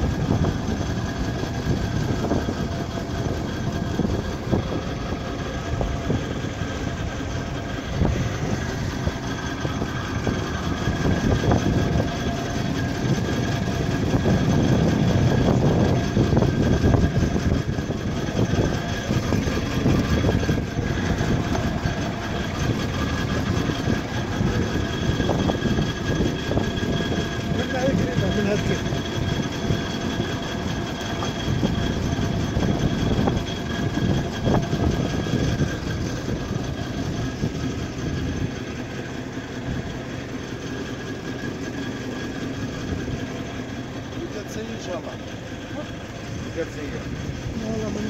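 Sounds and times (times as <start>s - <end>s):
drilling rig engine running: 0.0s - 48.0s.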